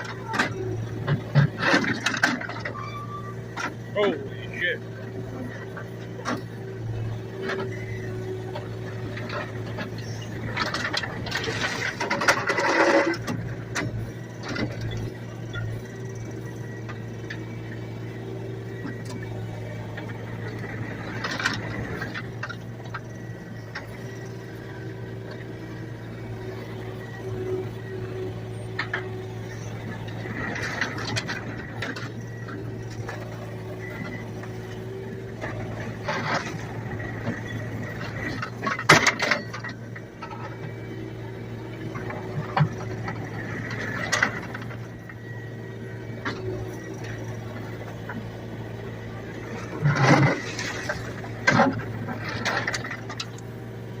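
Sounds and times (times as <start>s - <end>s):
excavator engine droning: 0.0s - 54.0s.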